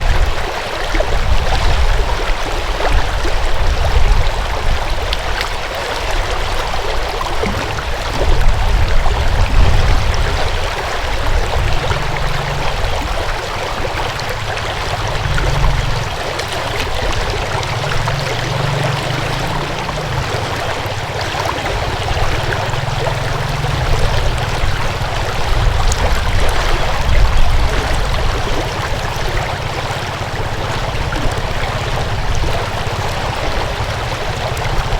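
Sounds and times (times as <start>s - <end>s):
water rushing over rocks: 0.0s - 34.9s.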